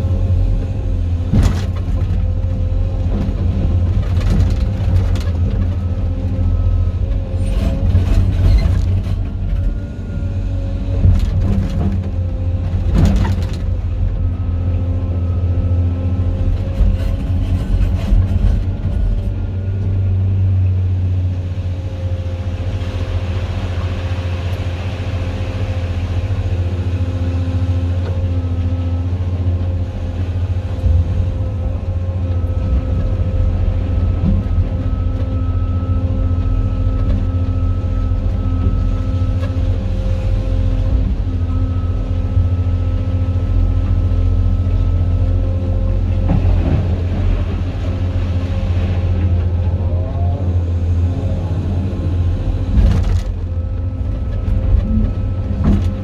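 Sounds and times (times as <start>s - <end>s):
diesel engine droning with whine: 0.0s - 56.0s.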